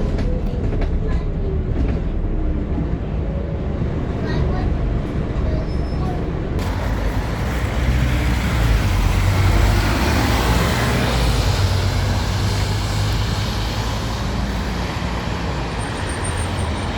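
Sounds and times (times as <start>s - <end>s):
bus engine hum: 0.0s - 16.9s
road noise: 0.0s - 16.9s.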